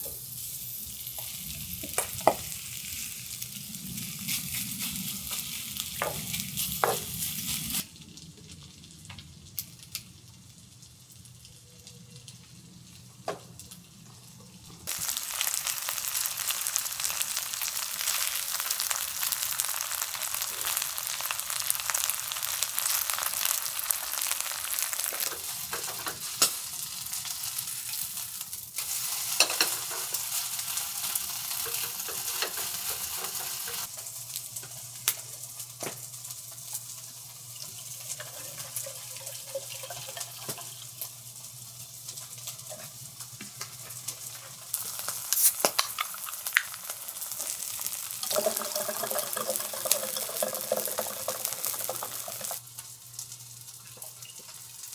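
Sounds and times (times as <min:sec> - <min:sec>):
food sizzling in pan: 0:00.0 - 0:08.0, 0:13.8 - 0:54.9.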